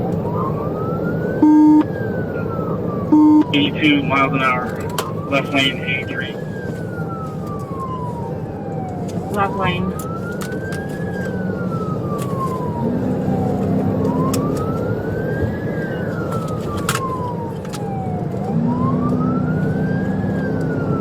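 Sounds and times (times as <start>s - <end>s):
car engine and road noise: 0.0s - 21.0s
police siren wailing: 0.0s - 21.0s.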